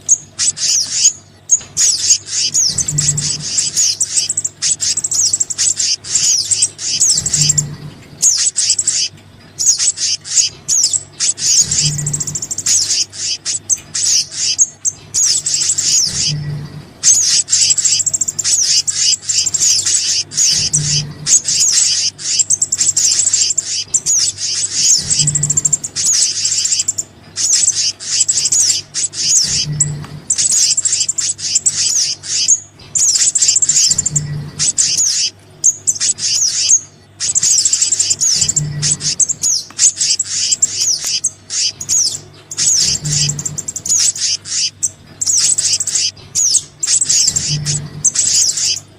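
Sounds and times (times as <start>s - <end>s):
faint steady hum: 0.0s - 48.9s
songbird chirps and trills: 0.0s - 48.9s.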